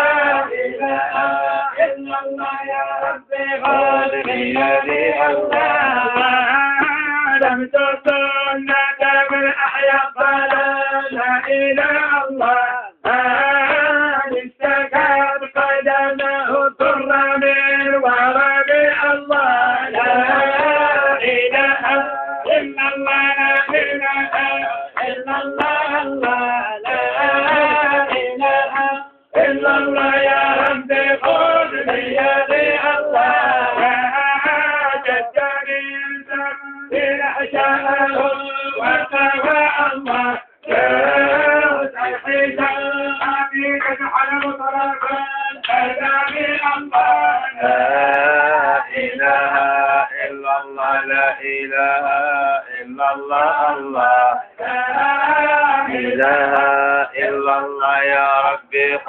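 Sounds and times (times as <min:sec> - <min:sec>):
man singing ornamented chant: 0:00.0 - 0:59.0.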